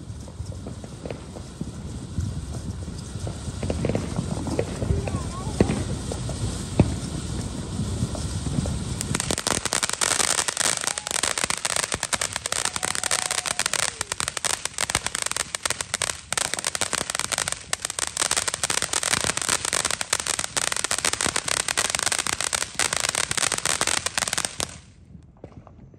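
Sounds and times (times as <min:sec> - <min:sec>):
firework hissing and crackling: 0:00.0 - 0:25.5.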